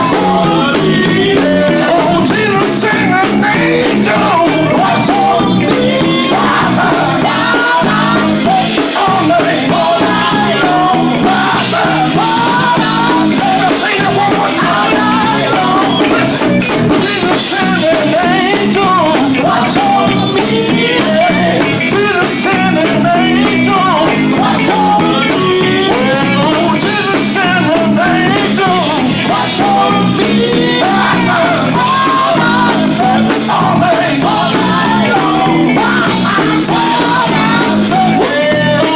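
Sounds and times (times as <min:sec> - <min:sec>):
gospel singing with band: 0:00.0 - 0:38.9.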